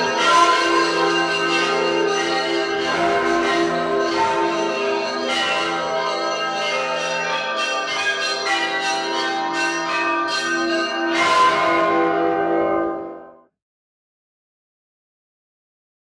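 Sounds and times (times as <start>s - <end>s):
church bells ringing: 0.0s - 13.5s.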